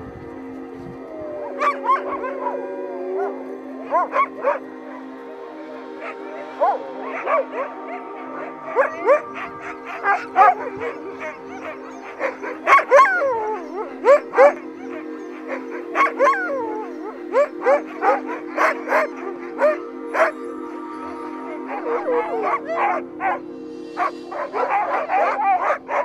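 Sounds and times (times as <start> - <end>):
dogs howling: 1.0 - 26.0
dogs yelping and barking: 1.4 - 26.0.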